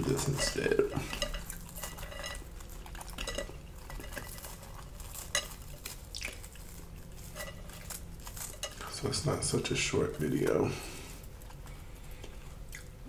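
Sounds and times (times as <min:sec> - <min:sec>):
fried batter crunching: 0:00.0 - 0:13.0.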